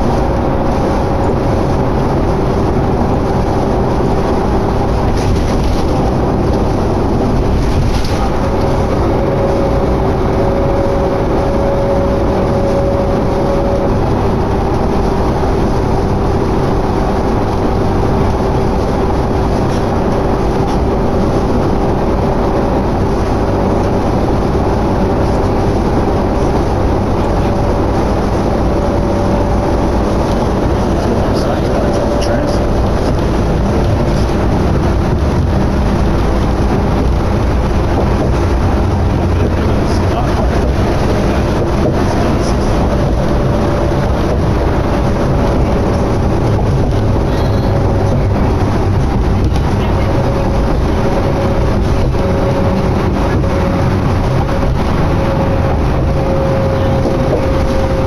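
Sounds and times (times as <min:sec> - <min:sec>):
bus engine and road drone: 0:00.0 - 0:58.0
constant whine: 0:00.0 - 0:58.0.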